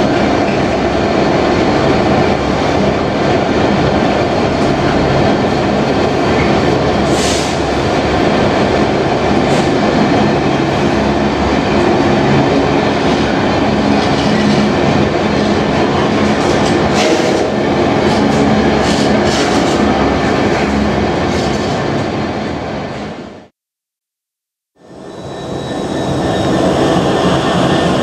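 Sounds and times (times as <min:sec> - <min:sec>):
train wheels rumbling on rails: 0:00.0 - 0:23.4, 0:24.9 - 0:28.0.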